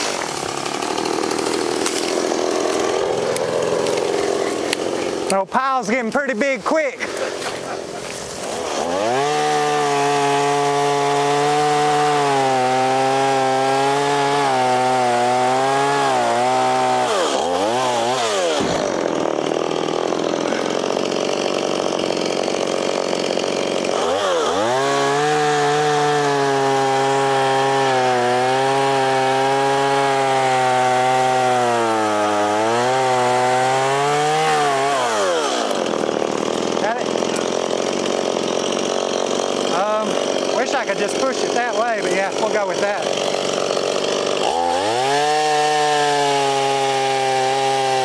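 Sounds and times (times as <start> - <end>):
chainsaw cutting tree limbs: 0.0 - 48.0.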